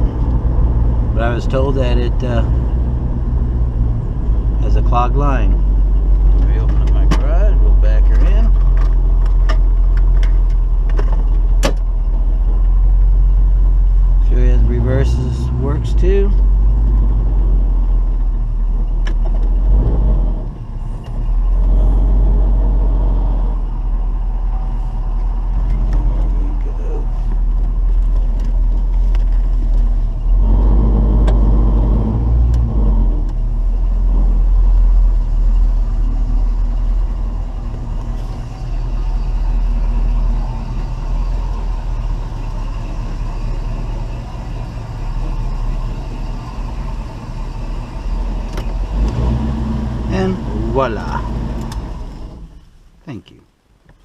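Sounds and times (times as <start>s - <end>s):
car engine running at low speed: 0.0s - 54.0s.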